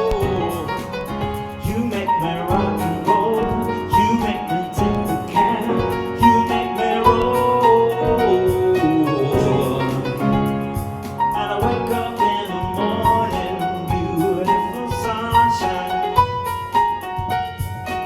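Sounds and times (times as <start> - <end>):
looped piano playing: 0.0 - 18.0.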